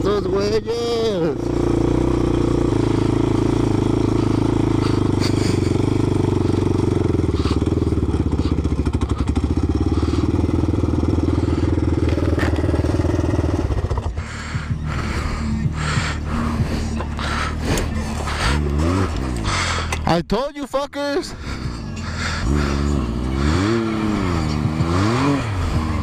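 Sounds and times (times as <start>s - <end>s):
atv engine running: 0.0s - 20.3s, 21.0s - 26.0s.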